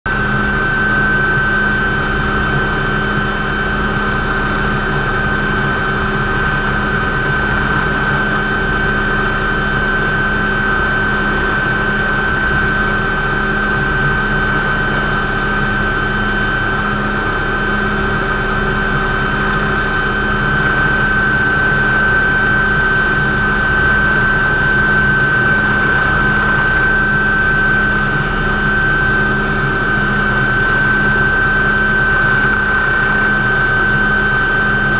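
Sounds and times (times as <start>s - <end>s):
helicopter rotor drone: 0.0s - 34.9s
helicopter turbine whine: 0.0s - 34.9s.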